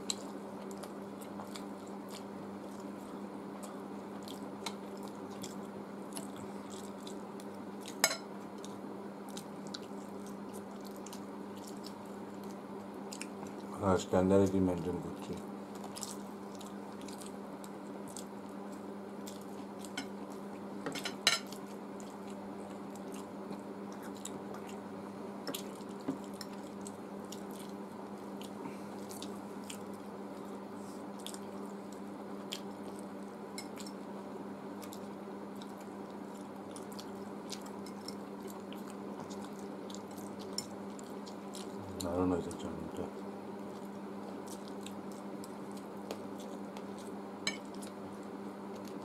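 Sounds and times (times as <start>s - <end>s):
chewing: 0.0s - 13.7s, 15.7s - 20.6s, 21.4s - 24.8s, 25.4s - 34.0s, 34.7s - 49.0s
steady low hum: 0.0s - 49.0s.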